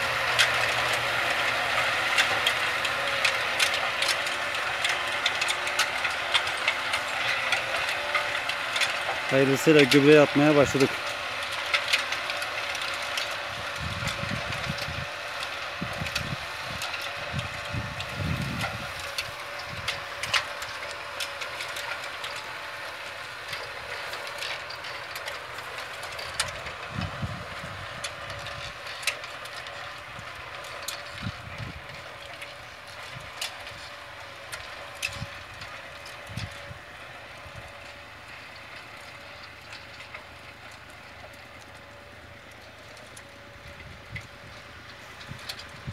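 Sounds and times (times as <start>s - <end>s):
manure spreader running: 0.0s - 45.9s
tractor engine running: 0.0s - 45.9s.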